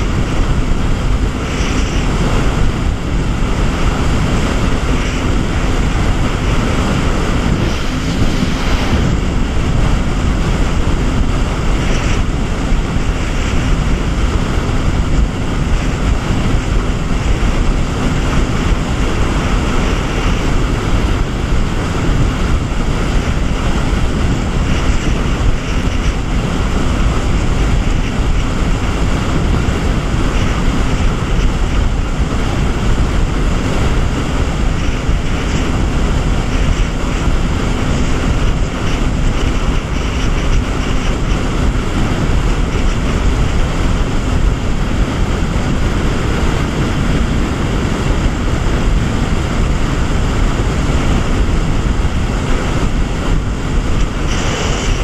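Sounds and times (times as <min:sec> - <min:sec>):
jet ski engine: 0:00.0 - 0:55.0
rushing water: 0:00.0 - 0:55.0
wind buffeting microphone: 0:00.0 - 0:55.0.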